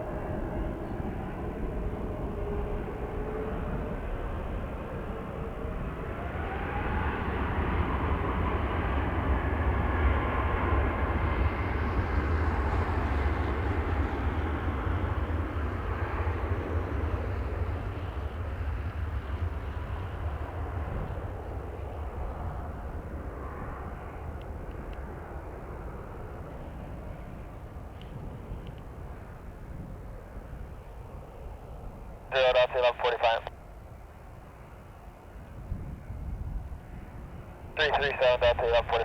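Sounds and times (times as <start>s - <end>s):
jet engines roaring: 0.0s - 33.5s, 36.8s - 39.0s.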